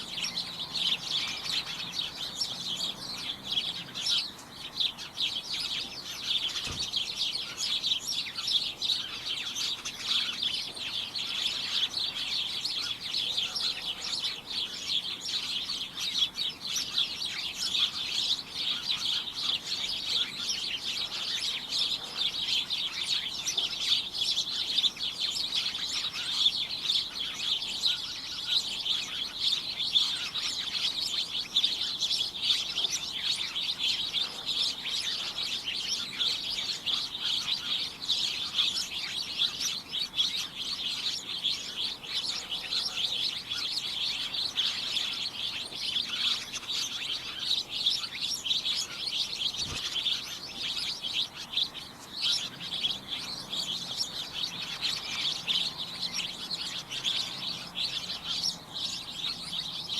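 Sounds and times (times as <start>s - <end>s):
many birds chirping: 0.0s - 59.9s.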